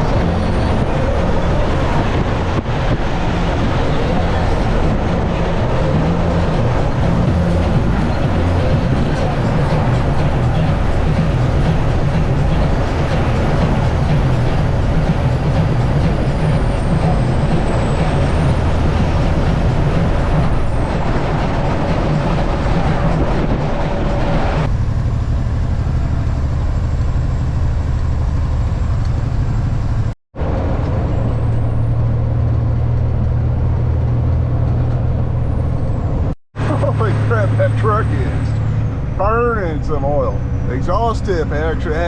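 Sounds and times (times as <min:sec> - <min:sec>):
road noise: 0:00.0 - 0:42.0
truck diesel engine running: 0:00.0 - 0:42.0.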